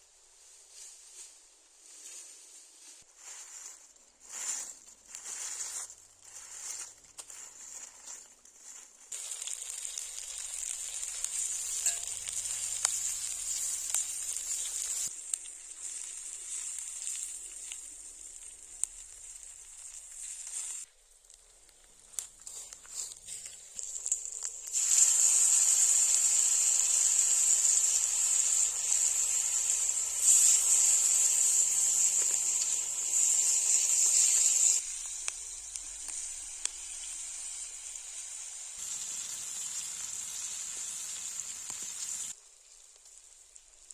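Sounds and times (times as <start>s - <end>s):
meat sizzling on a hot stone: 4.2s - 43.9s.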